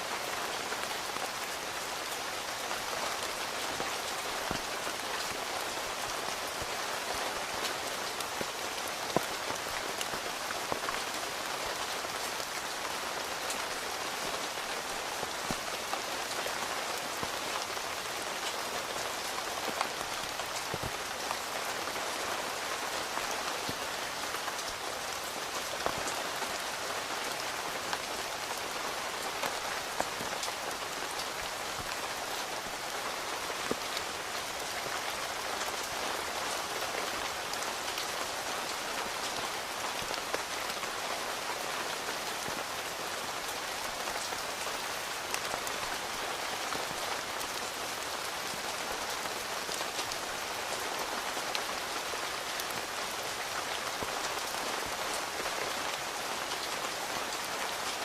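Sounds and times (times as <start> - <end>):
rain on tent fabric: 0.0 - 58.0.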